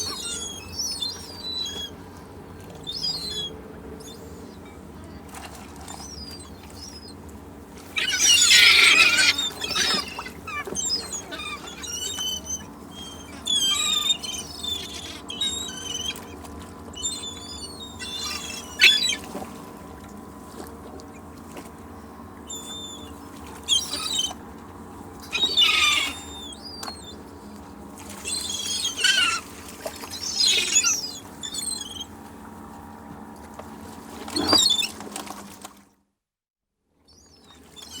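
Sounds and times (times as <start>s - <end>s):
seagulls calling: 0.0s - 32.6s, 34.4s - 35.0s, 37.1s - 38.0s.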